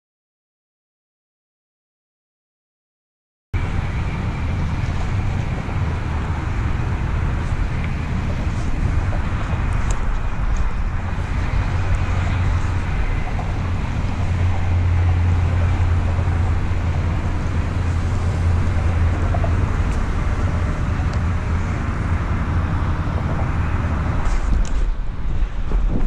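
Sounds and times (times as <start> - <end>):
low rumble of wind on microphone: 3.6 - 26.0.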